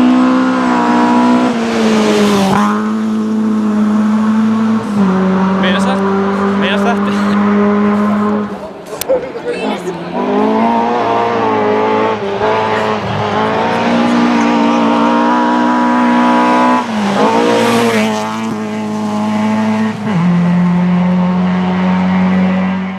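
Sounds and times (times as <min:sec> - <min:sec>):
rally car engine revving high: 0:00.0 - 0:22.9.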